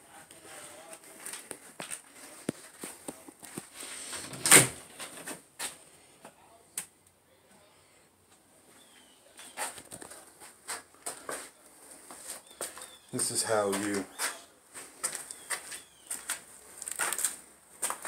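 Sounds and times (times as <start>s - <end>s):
footsteps: 0.0s - 5.8s, 8.7s - 18.0s.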